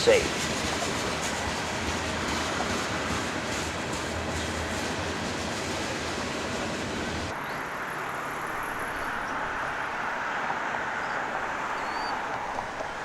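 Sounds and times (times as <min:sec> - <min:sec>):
outdoor background noise: 0:00.0 - 0:13.0
train rumbling on rails: 0:00.0 - 0:13.0.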